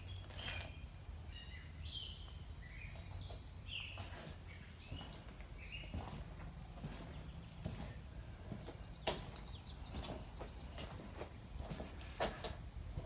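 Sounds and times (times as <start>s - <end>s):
birds chirping and twittering: 0.0s - 11.4s
low background hum: 0.0s - 13.0s.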